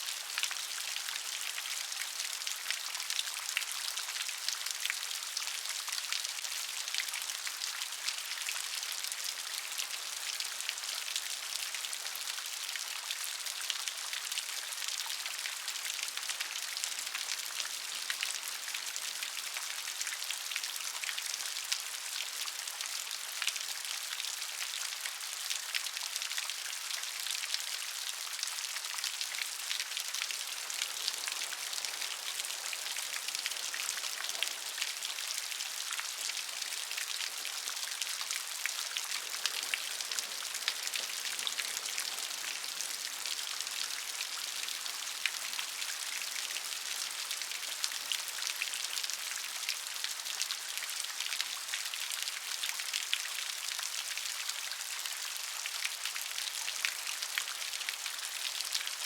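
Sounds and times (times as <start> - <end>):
gentle rain hiss: 0.0 - 59.0
raindrops ticking on a surface: 0.3 - 54.4.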